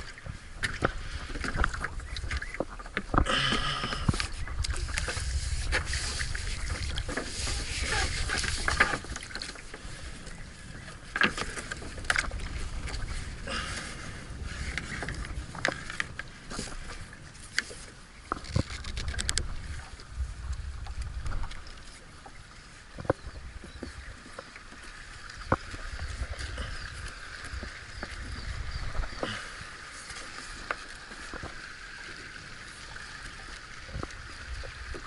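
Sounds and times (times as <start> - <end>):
wind rumble on microphone: 0.0 - 29.9, 30.5 - 35.0
water lapping against boat hull: 0.0 - 35.0.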